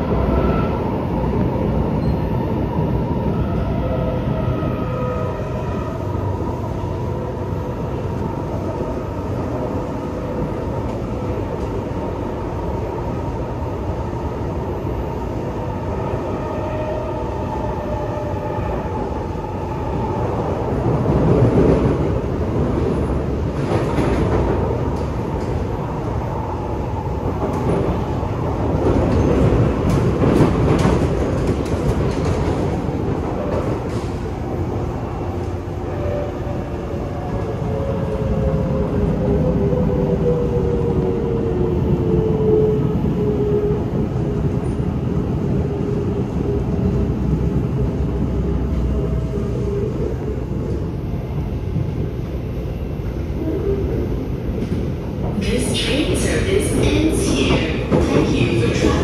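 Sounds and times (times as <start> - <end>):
train car rumble: 0.0 - 59.0.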